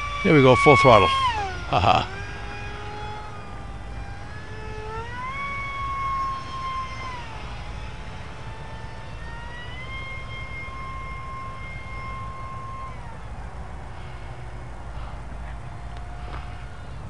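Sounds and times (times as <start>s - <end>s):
electric motor propeller whine: 0.0s - 17.0s.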